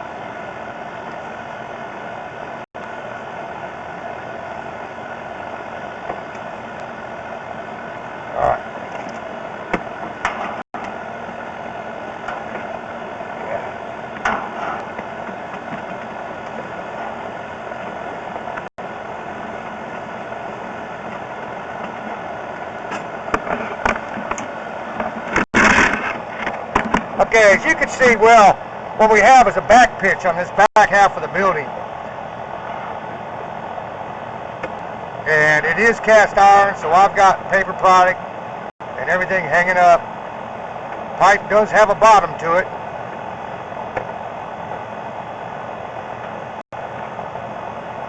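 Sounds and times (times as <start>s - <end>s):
mechanical hum: 0.0s - 48.0s.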